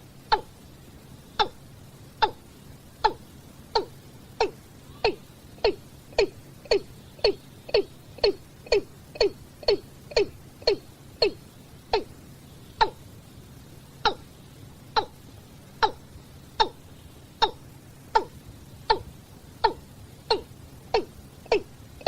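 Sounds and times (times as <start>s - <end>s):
bird calling with deep notes: 0.0s - 21.8s.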